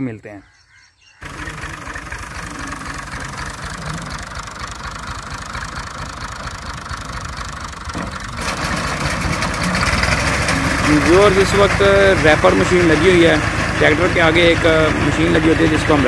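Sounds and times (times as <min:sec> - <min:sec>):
tractor diesel engine chugging: 0:01.2 - 0:16.0.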